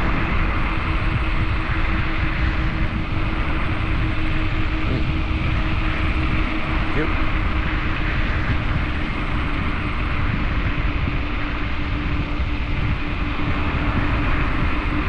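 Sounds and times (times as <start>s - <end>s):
road rumble: 0.0s - 15.0s
steady electric hum: 0.0s - 15.0s
wind rushing over microphone: 0.0s - 15.0s.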